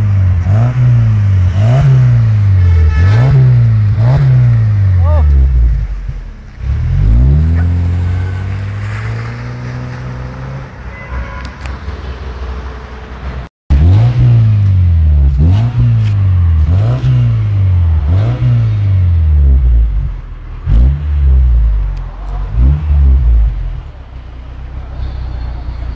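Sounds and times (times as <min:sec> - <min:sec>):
car engine revving: 0:00.0 - 0:10.8, 0:11.9 - 0:25.9.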